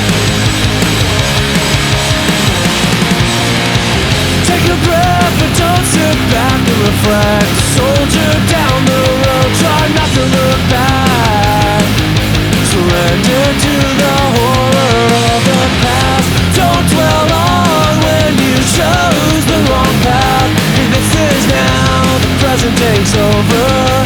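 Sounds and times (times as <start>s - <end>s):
instrumental punk rock band: 0.0s - 24.0s.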